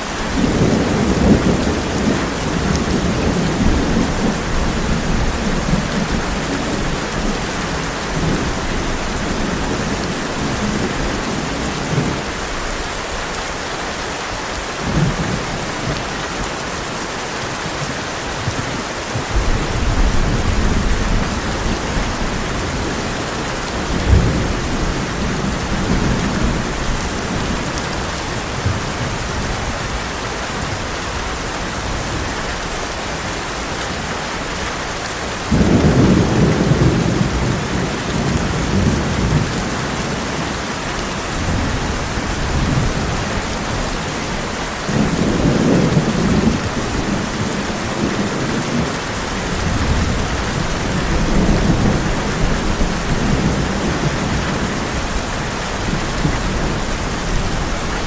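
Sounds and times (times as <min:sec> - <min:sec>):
thunder rumbling: 0:00.0 - 0:12.9, 0:18.4 - 0:32.9, 0:33.9 - 0:58.0
heavy rain on a tin roof: 0:00.0 - 0:58.0.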